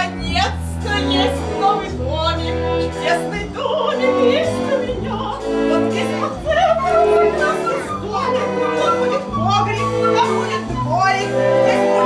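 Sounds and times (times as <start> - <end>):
instrumental accompaniment: 0.0 - 12.0
operatic singing voice: 0.0 - 12.0.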